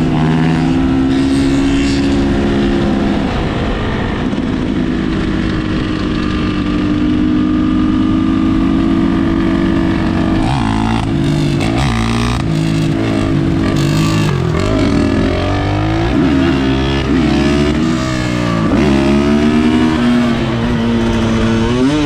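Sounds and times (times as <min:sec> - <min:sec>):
dirt bike engine revving: 0:00.0 - 0:04.7, 0:05.4 - 0:22.0.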